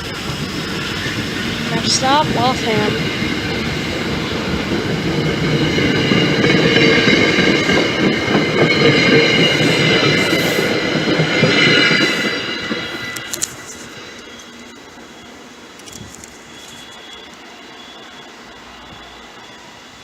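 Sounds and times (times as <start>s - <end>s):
high wheel squeal: 0.0s - 20.0s
train rumbling on rails: 0.0s - 20.0s.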